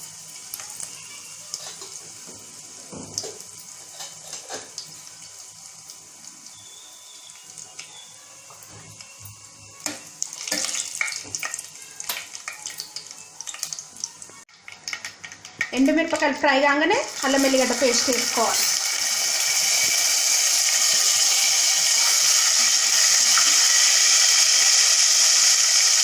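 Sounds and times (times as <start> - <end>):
spices frying in hot oil: 0.0 - 26.0.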